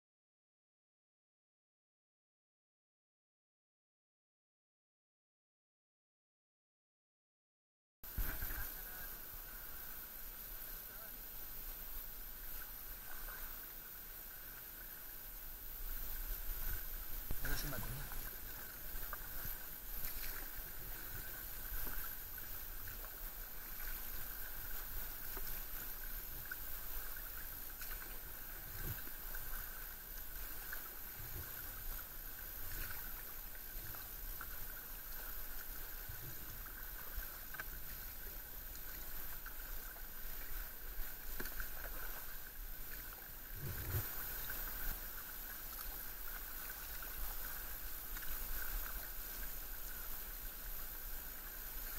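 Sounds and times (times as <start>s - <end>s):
kayak paddles dipping in water: 8.0s - 51.9s
water lapping at hull: 8.1s - 51.9s.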